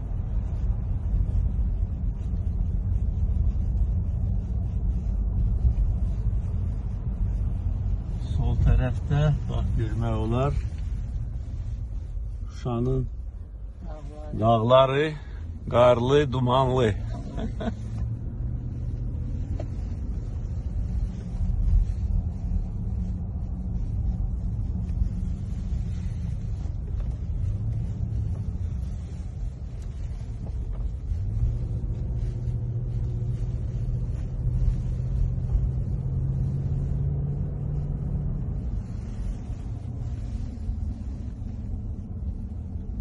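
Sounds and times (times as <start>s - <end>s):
car engine rumble: 0.0s - 43.0s
road noise: 0.0s - 43.0s.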